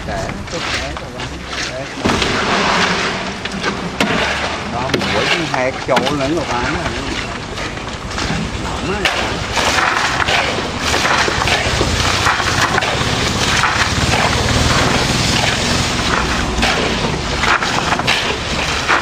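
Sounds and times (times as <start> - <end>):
shovels scraping wet concrete: 0.0 - 19.0.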